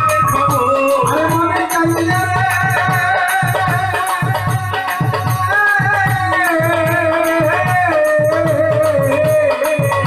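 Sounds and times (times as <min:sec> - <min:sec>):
barrel drum beat: 0:00.0 - 0:10.0
man singing: 0:00.0 - 0:10.0
rattling percussion: 0:00.0 - 0:10.0.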